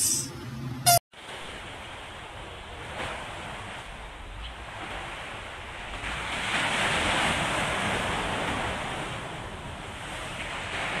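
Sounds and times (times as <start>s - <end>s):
wind: 0.0s - 11.0s
sea waves breaking: 1.2s - 11.0s.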